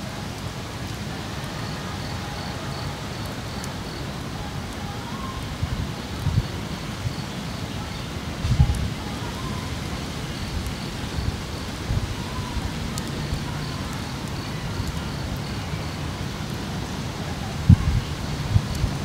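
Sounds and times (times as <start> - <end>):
wind buffeting microphone: 0.7 - 19.0.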